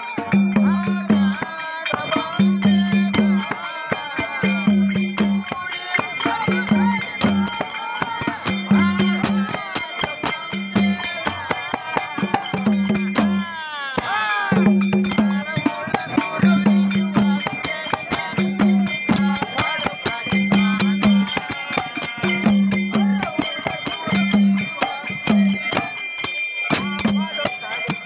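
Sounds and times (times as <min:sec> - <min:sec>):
hand drum: 0:00.0 - 0:28.0.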